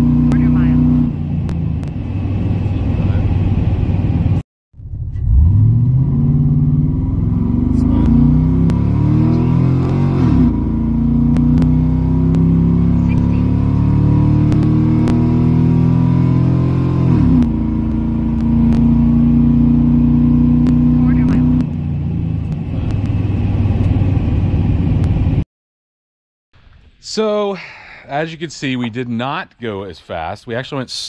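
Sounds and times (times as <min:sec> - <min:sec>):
gear shifts dropping engine pitch: 0:00.0 - 0:25.4
truck engine at full throttle: 0:00.0 - 0:25.4.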